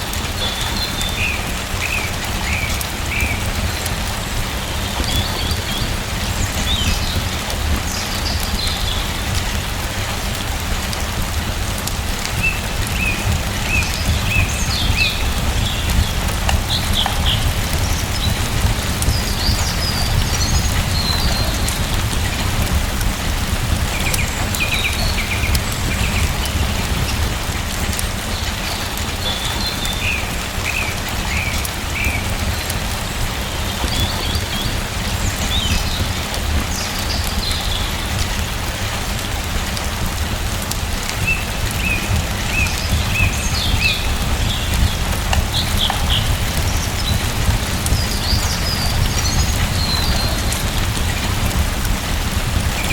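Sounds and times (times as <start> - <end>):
small birds chirping: 0.0 - 11.2, 11.8 - 38.5, 40.8 - 52.9
rain pattering: 0.0 - 52.9.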